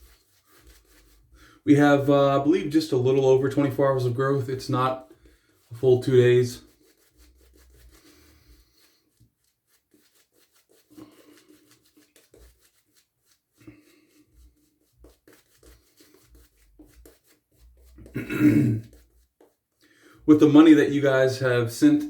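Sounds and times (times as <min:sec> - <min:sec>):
shaving brush scratchy rustling: 0:00.0 - 0:22.0.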